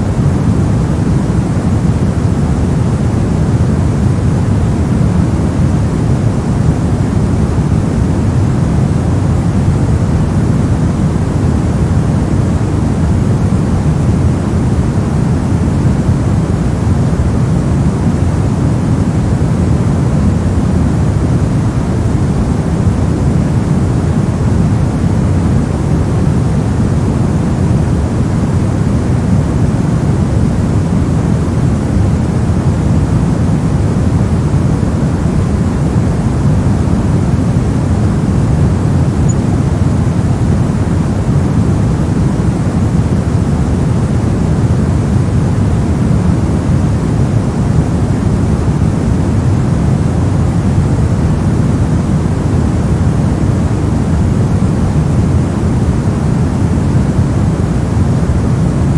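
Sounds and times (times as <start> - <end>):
deep white noise hiss: 0.0 - 58.9.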